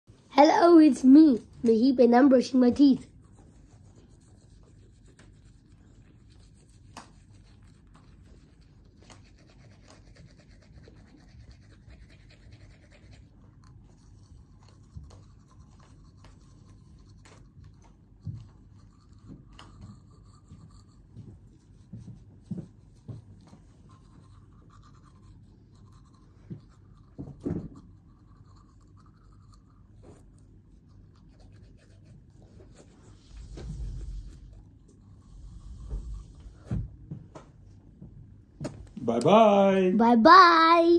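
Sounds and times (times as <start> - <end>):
toothbrush scrubbing teeth: 0.6 - 36.6.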